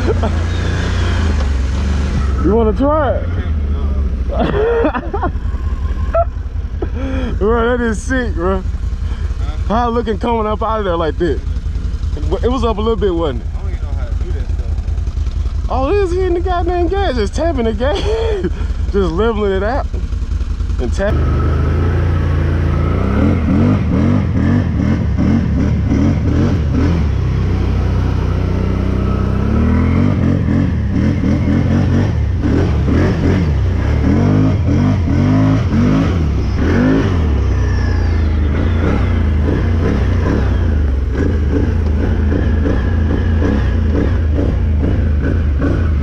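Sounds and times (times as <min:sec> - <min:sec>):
engine revving up and down: 0:00.0 - 0:19.8, 0:20.7 - 0:46.0.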